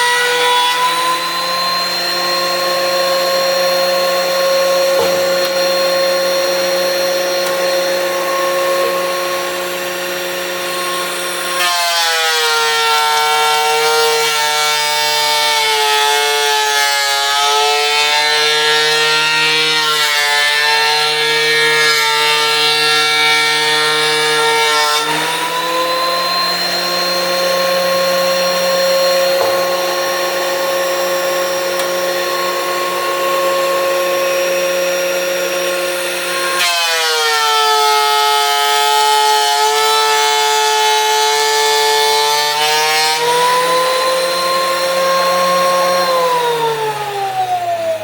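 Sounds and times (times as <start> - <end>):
thickness planer motor whine: 0.0 - 48.0.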